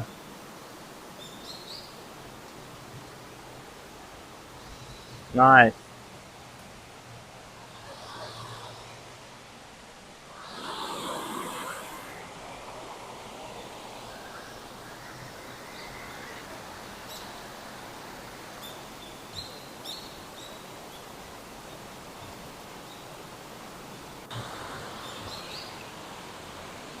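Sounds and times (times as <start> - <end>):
steady outdoor hiss: 0.0 - 27.0.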